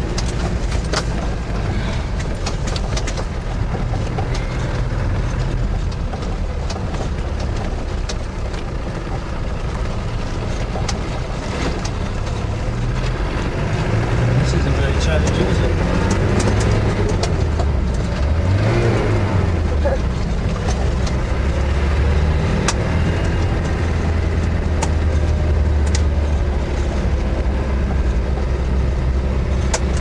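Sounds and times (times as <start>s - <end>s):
diesel engine running: 0.0s - 30.0s
vehicle knocks and rattles: 0.0s - 30.0s.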